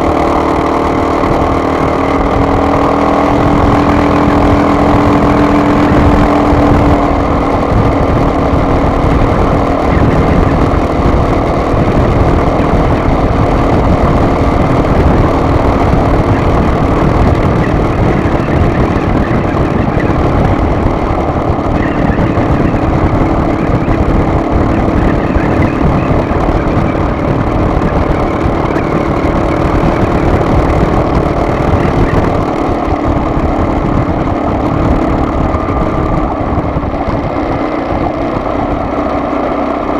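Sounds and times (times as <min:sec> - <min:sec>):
car engine drone: 0:00.0 - 0:39.9
road rumble: 0:00.0 - 0:39.9.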